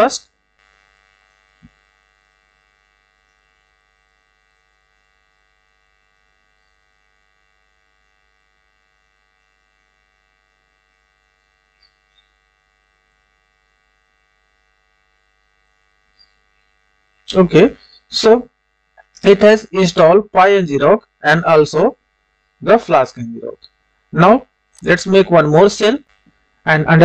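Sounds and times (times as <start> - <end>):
electrical hum and buzz: 0.0 - 27.0.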